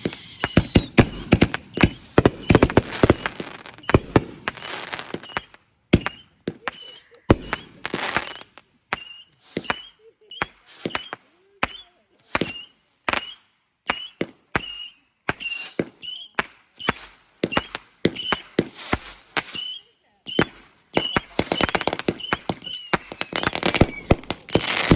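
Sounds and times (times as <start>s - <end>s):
fireworks bangs: 0.0s - 24.9s
fireworks crackling: 0.0s - 24.9s
fireworks whistle: 0.0s - 24.9s.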